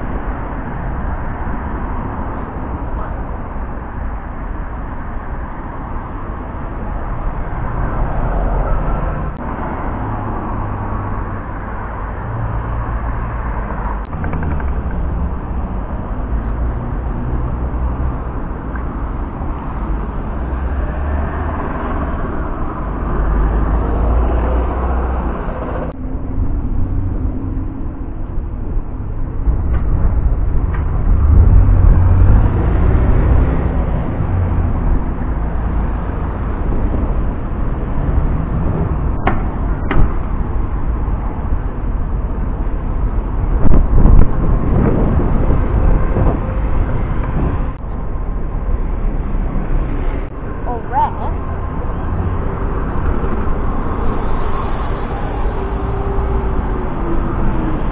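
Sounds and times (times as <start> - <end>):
bus engines passing: 0.0 - 57.9
road traffic noise: 0.0 - 57.9.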